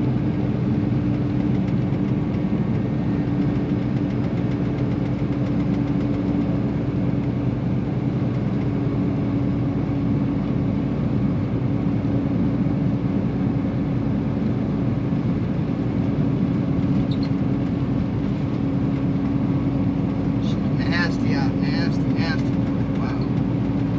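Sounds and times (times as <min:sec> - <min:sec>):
road noise: 0:00.0 - 0:23.9
truck diesel engine running: 0:00.0 - 0:23.9.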